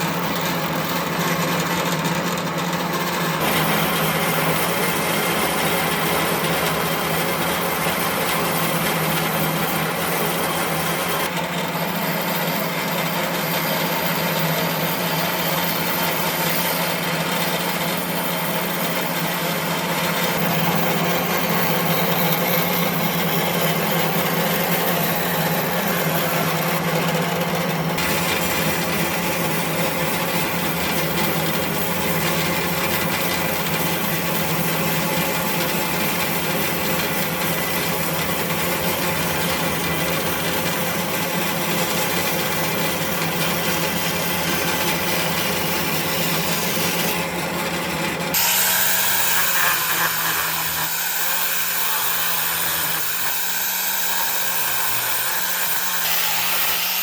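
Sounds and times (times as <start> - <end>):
power tool running against wood: 0.0 - 57.0.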